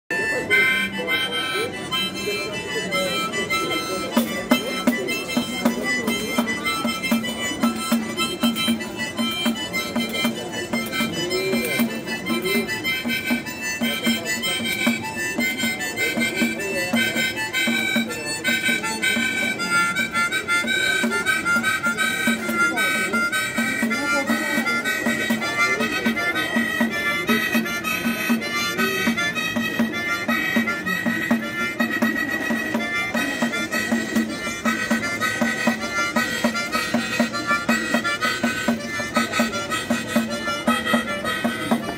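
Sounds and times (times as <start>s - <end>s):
harmonica melody: 0.1s - 41.9s.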